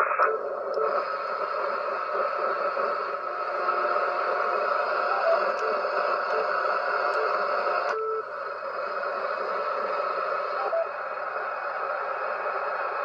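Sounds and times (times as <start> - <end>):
radio static noise: 0.0 - 13.0.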